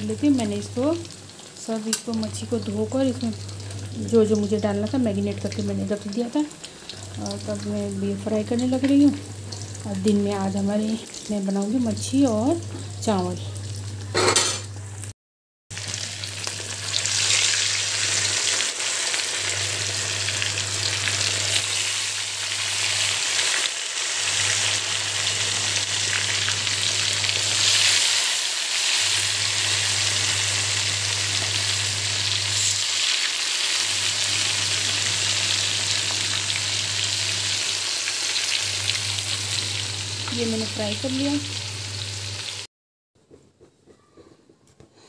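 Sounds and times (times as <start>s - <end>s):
fish frying in hot oil: 0.0s - 14.1s, 15.8s - 42.7s.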